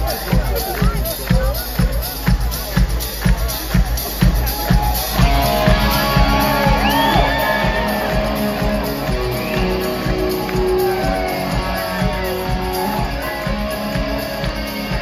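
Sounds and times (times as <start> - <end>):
drum beat: 0.0 - 15.0
electric guitar: 0.1 - 15.0.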